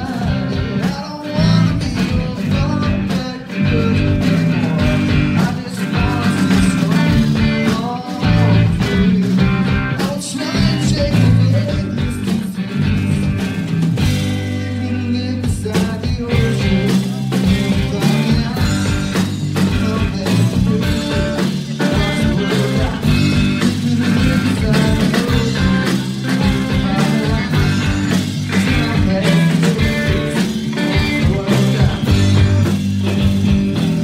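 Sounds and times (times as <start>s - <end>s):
person singing: 0.0s - 33.2s
drum kit: 0.0s - 34.0s
electric guitars: 0.0s - 34.0s.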